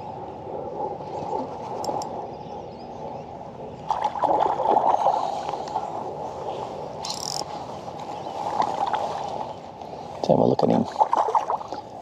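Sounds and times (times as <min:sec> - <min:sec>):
water splashing and gurgling: 0:00.0 - 0:12.0.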